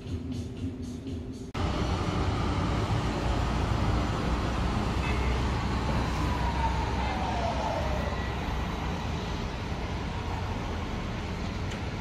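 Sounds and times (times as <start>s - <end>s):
street traffic rumble: 0.0s - 12.0s
tram passing on tracks: 1.5s - 12.0s.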